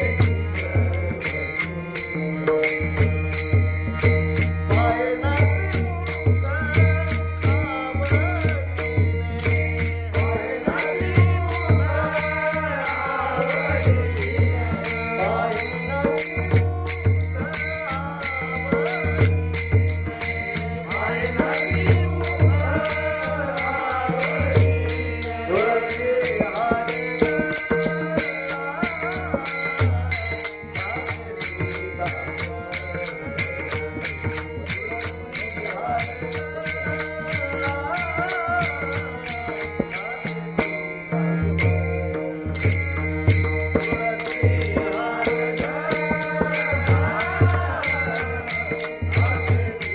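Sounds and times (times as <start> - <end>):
small hand cymbals: 0.0 - 49.9
solo voice singing devotional melody: 0.0 - 49.9.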